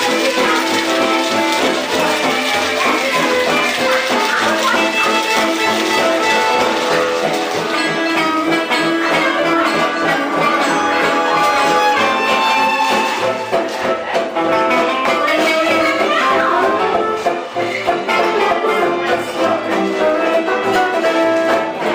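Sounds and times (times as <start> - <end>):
live band playing lively music: 0.0 - 21.9.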